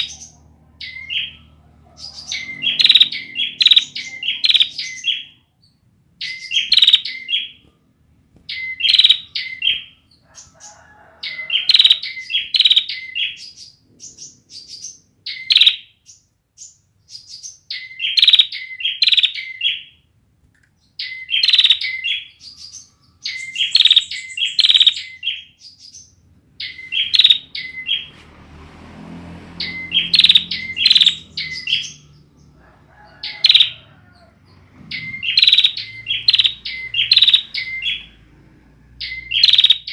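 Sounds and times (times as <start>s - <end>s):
bird chirping high: 0.0s - 7.7s, 8.4s - 20.1s, 20.8s - 39.9s.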